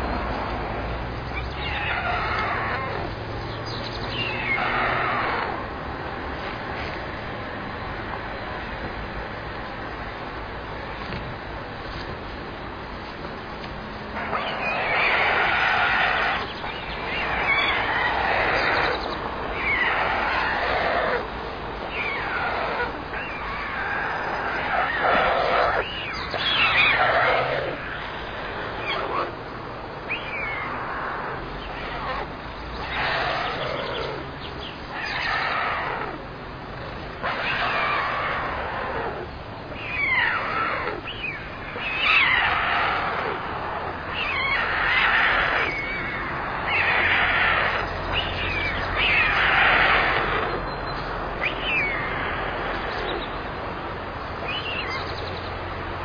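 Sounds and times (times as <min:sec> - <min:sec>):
stork chicks hoarse calls: 0:01.2 - 0:05.7, 0:14.0 - 0:55.9.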